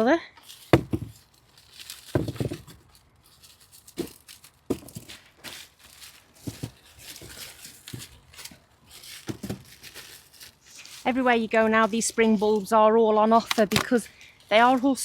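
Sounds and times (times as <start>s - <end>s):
plastic packets rustling and tearing: 0.4s - 15.0s.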